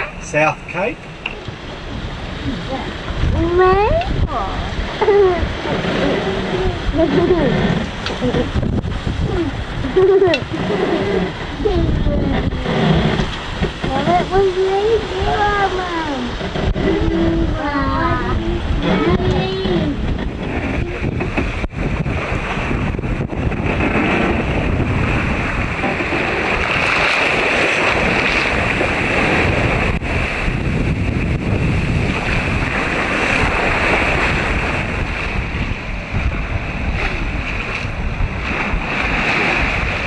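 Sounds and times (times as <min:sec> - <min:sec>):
rush of waves: 0:00.0 - 0:40.0
wind buffeting microphone: 0:00.0 - 0:40.0.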